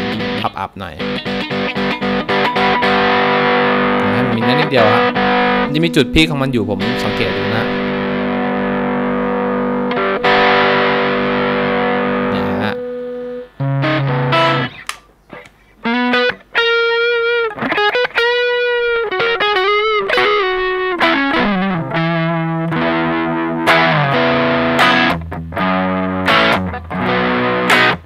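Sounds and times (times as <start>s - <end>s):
overdriven electric guitar: 0.0s - 28.0s.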